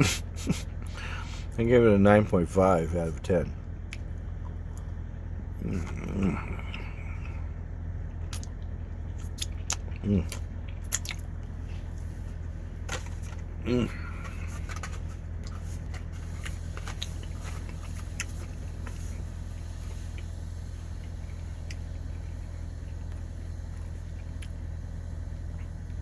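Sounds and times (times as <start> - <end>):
steady low hum: 0.0 - 26.0
person chewing chocolate: 3.9 - 24.8.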